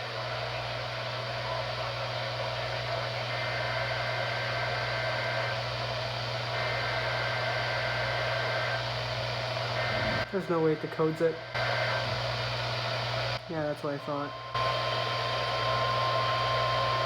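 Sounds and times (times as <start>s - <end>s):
heavy radio static: 0.0s - 17.0s.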